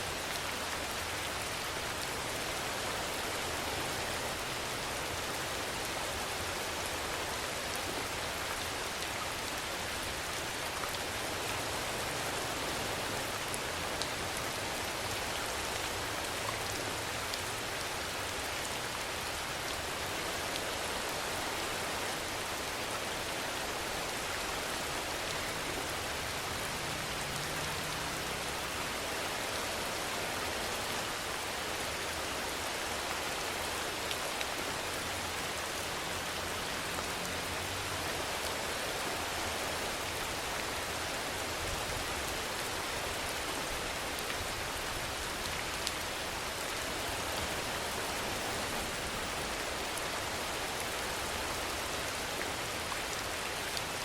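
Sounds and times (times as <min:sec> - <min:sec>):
rain hissing on a surface: 0:00.0 - 0:54.0.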